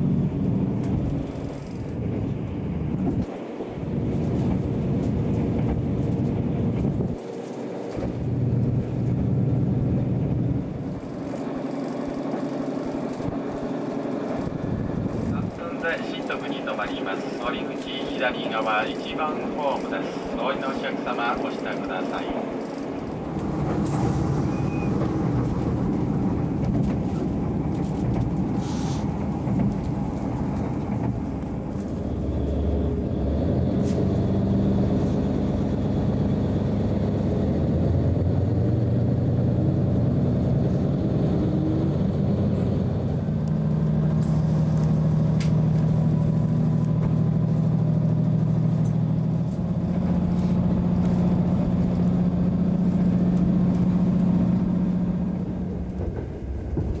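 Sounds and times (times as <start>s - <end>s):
engine drone: 0.0s - 57.0s
train rumbling: 0.0s - 57.0s.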